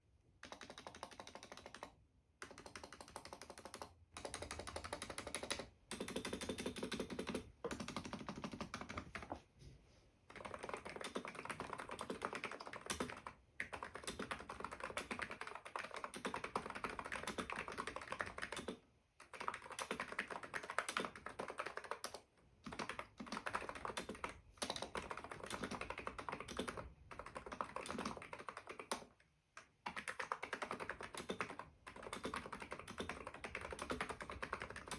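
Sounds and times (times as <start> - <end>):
fast keyboard typing: 0.4 - 9.4, 10.3 - 34.9.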